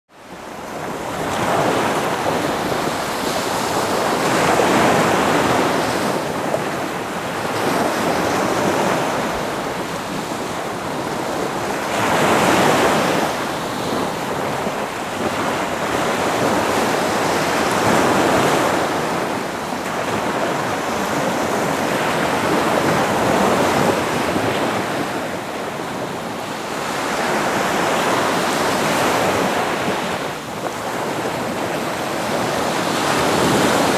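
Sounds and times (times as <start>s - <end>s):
ocean waves breaking: 0.2s - 33.9s.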